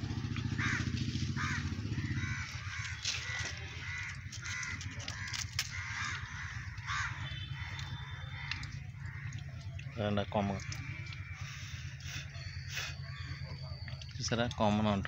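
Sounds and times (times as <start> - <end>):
steady low hum: 0.0 - 14.2
birds making short harsh calls: 0.4 - 14.3.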